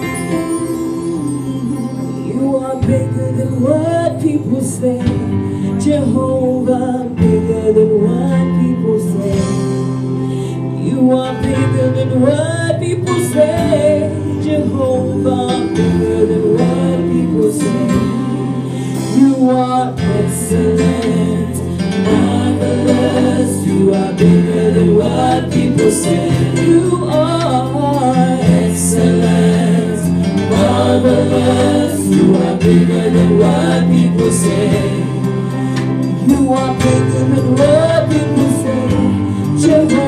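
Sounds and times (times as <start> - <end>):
keyboard playing: 0.0 - 5.1, 11.0 - 40.0
guitar playing: 0.0 - 40.0
women singing into microphones: 0.8 - 9.9, 10.6 - 40.0.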